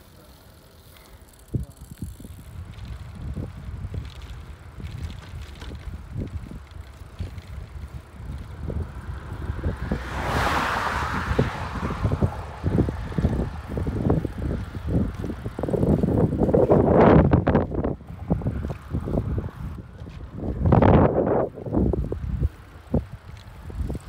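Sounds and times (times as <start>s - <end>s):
wind buffeting microphone: 1.4s - 24.0s
car passing: 2.2s - 24.0s.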